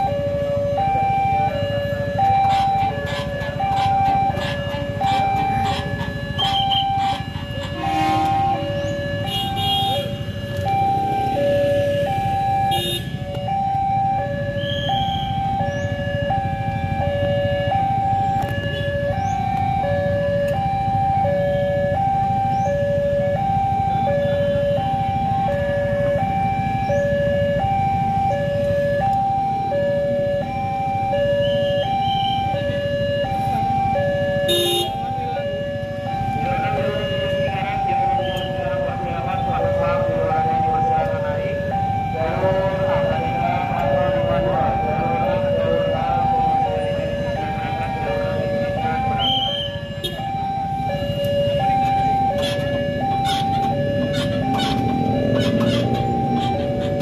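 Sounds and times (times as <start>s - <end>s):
low traffic rumble: 0.0s - 57.0s
two-tone crossing alarm: 0.0s - 57.0s.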